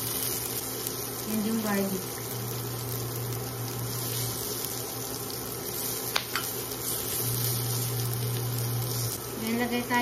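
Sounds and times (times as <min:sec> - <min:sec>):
food sizzling in hot oil: 0:00.0 - 0:10.0
steady low hum: 0:00.0 - 0:10.0.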